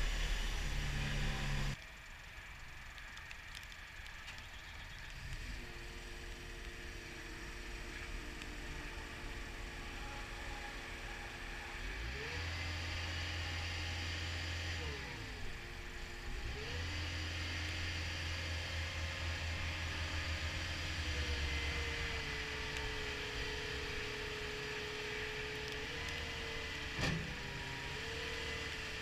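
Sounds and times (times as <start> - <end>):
diesel engine revving: 0.0 - 1.8, 5.0 - 29.0.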